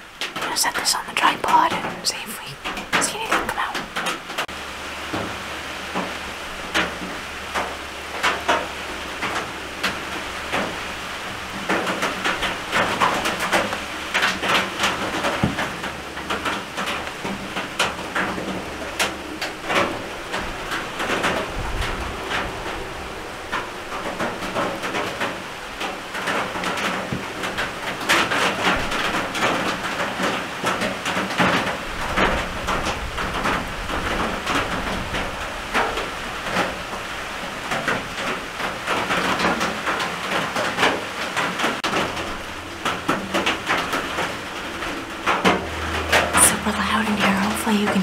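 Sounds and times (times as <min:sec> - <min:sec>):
rain pattering on roof: 0:00.0 - 0:48.0.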